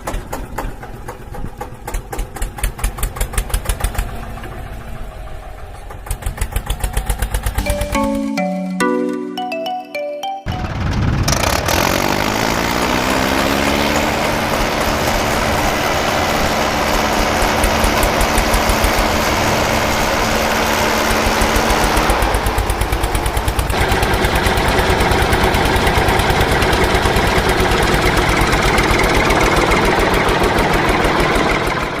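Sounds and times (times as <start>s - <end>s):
tractor motor starting and running: 0.0s - 7.6s, 10.6s - 32.0s.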